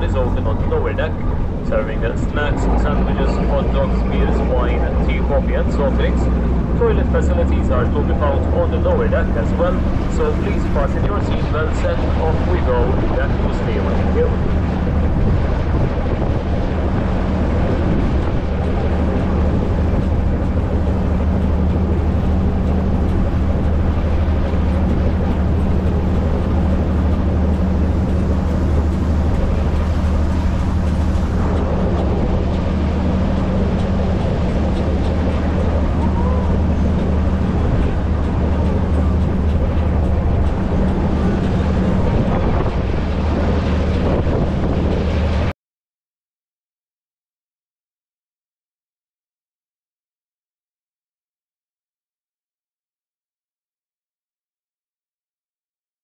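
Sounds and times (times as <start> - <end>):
boat engine droning: 0.0 - 45.5
wind and water rushing: 0.0 - 45.5.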